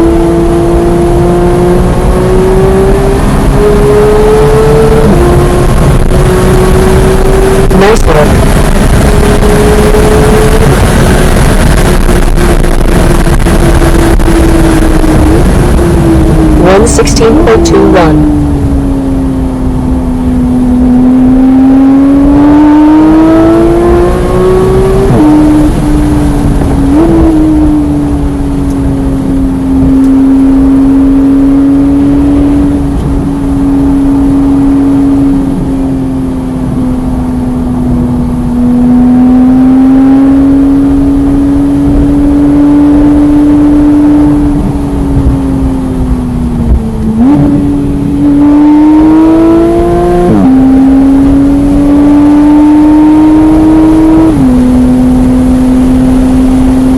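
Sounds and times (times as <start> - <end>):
car engine revving hard: 0.0 - 36.0, 36.6 - 56.9.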